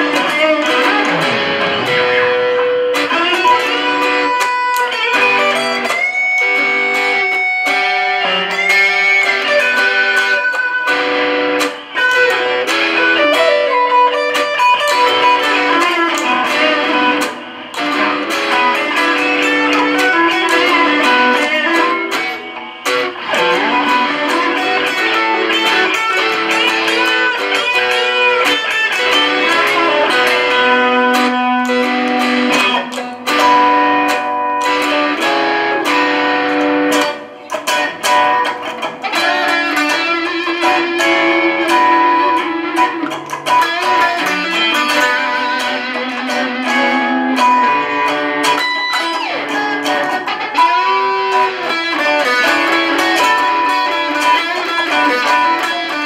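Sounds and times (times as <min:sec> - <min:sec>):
electric guitar chords: 0:00.0 - 0:56.0
electric guitar single-note lines: 0:00.0 - 0:56.0.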